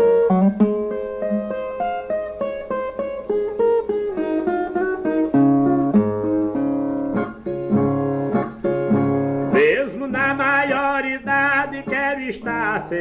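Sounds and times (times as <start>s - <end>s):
picked string melody: 0.0s - 13.0s.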